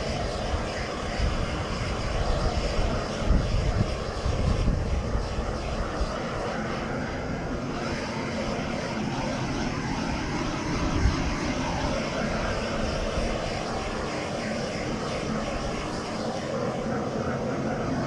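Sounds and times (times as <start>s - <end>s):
heat gun burning with rushing noise: 0.0s - 18.0s.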